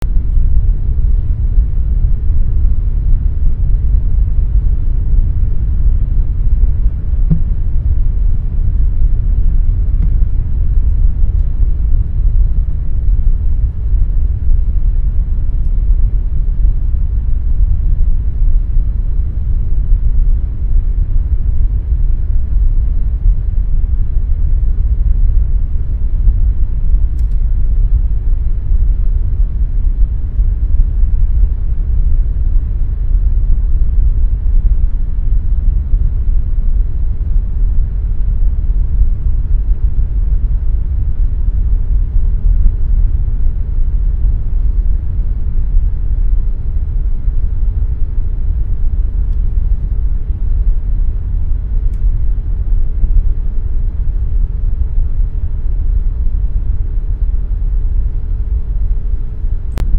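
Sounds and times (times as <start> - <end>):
air conditioner running: 0.0 - 59.9.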